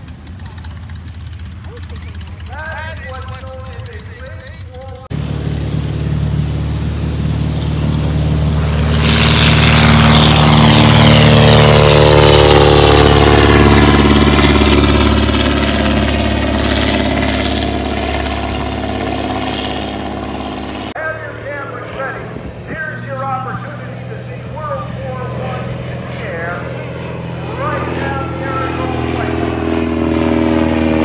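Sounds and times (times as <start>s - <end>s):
propeller plane engine passing: 0.0s - 31.0s.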